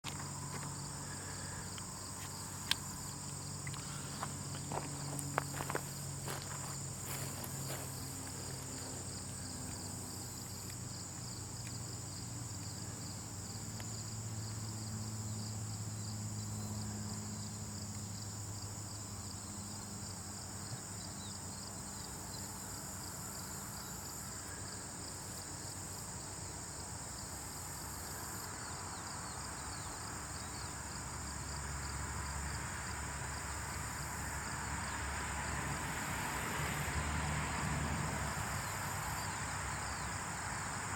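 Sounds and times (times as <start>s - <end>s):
insect chorus ticking: 0.0s - 40.9s.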